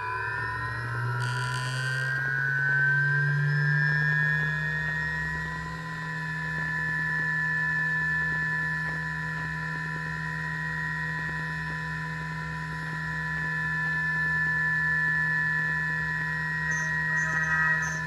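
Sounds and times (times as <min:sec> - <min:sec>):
milling machine spindle whine: 0:00.0 - 0:18.0.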